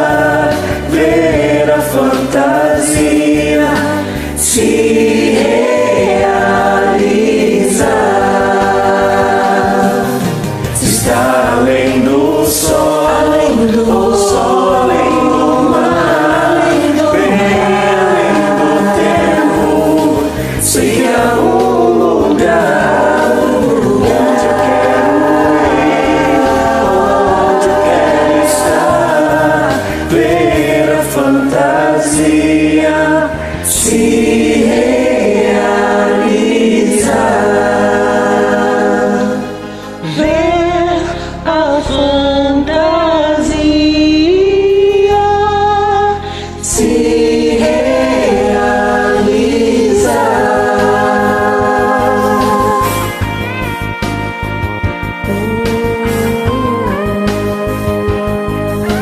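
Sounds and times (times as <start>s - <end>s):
group of voices singing: 0.0s - 53.8s, 55.2s - 59.0s
instrumental backing: 0.0s - 59.0s.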